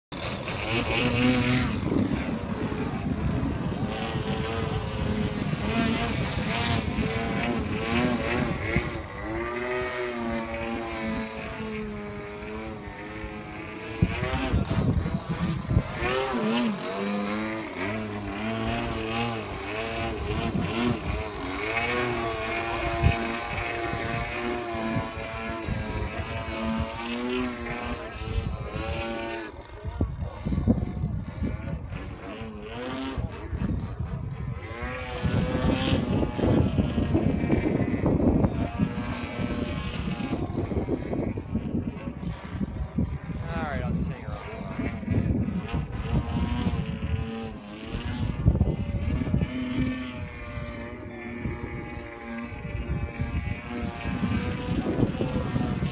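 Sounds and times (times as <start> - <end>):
model airplane two-stroke engine: 0.1 - 55.9.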